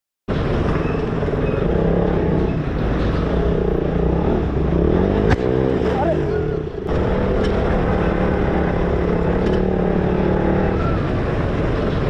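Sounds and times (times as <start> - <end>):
steady rushing noise: 0.3 - 12.0
motorcycle engine running: 0.4 - 12.0.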